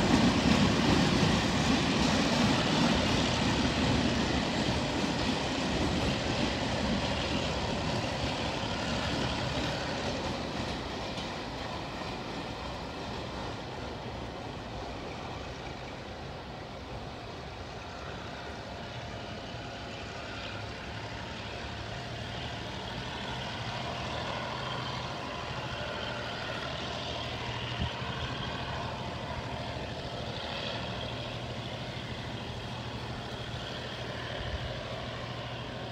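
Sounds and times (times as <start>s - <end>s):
diesel locomotive idling: 0.0s - 35.9s.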